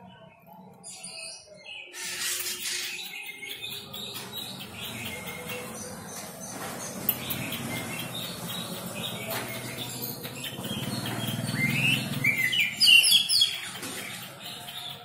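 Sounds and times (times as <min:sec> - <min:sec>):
songbirds chirping and whistling: 0:00.0 - 0:15.0.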